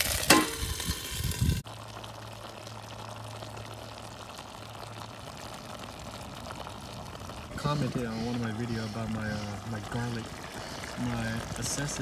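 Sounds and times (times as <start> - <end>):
food sizzling in a pan: 0.0 - 12.0
loud frying sizzle: 0.0 - 12.0.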